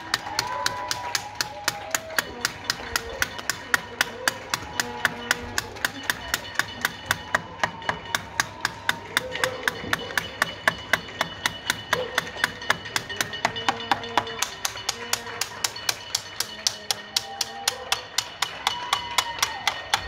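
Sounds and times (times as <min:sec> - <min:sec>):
crowd applause: 0:00.0 - 0:20.0
hand clapping: 0:00.0 - 0:20.0.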